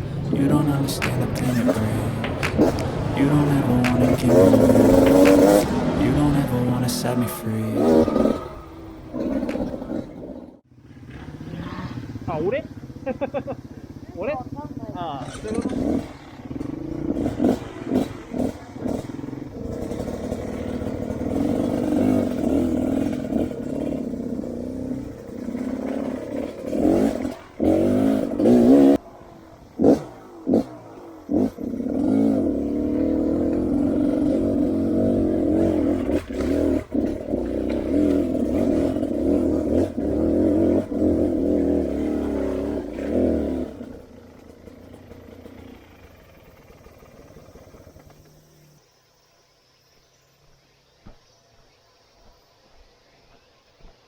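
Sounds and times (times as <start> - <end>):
dirt bike engine revving: 0.0 - 48.8.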